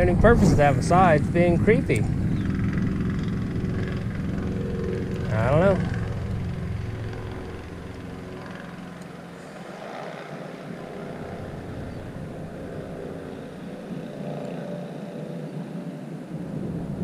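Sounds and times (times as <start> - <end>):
distant motor drone: 0.0 - 17.0
outdoor background noise: 0.0 - 17.0.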